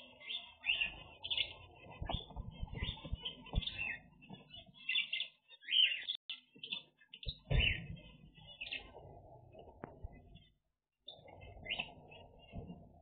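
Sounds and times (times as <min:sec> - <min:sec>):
finches chirping: 0:00.0 - 0:13.0.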